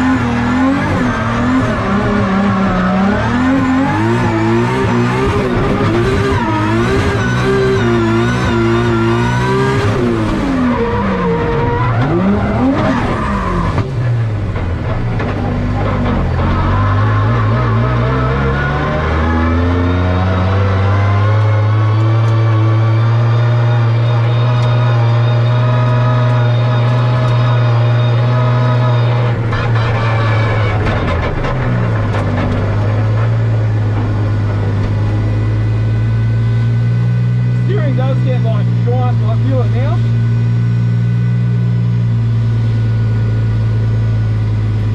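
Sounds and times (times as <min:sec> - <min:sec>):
car engine running hard: 0:00.0 - 0:44.9
tyres skidding: 0:00.0 - 0:44.9.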